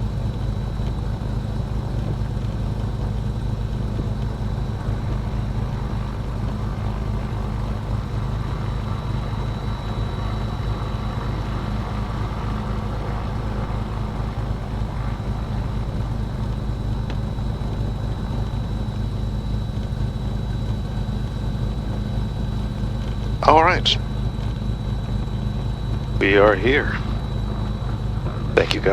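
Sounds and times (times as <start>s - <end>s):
piston aircraft engines droning: 0.0s - 28.9s.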